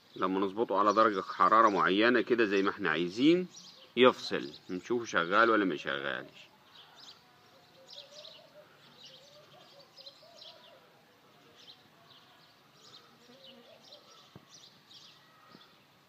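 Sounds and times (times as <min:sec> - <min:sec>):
faint birds chirping: 0:00.0 - 0:16.0
outdoor background noise: 0:00.0 - 0:16.0.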